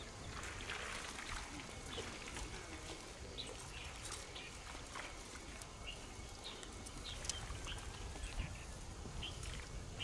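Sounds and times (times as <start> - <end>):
small birds chirping: 1.2 - 10.0
low wind rumble: 1.6 - 10.0.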